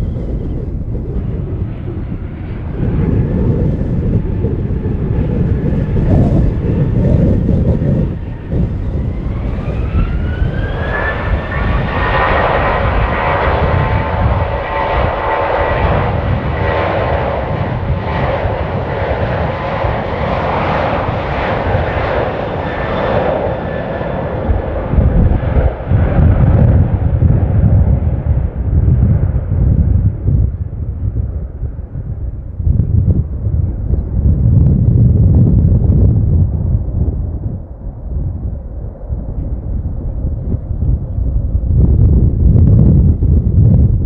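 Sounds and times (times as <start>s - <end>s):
jet engine whine rising: 0.0s - 44.0s
loud jet rumble: 0.0s - 44.0s.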